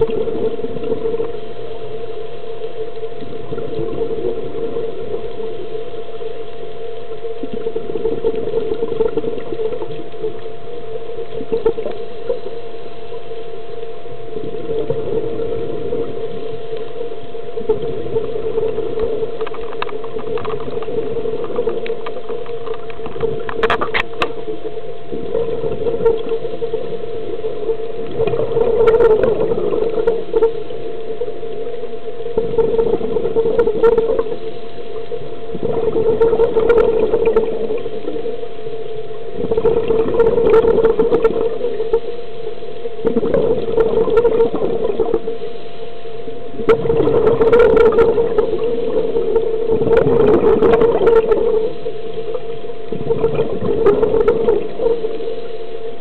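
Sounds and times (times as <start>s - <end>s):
exhaled bubbles: 0.0s - 56.0s
steady underwater hum: 0.0s - 56.0s.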